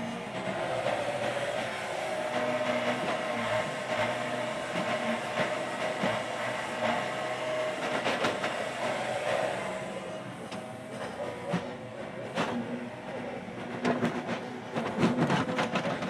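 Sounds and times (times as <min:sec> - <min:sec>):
diesel engine under load: 0:00.0 - 0:16.0
hydraulic whine: 0:00.0 - 0:16.0.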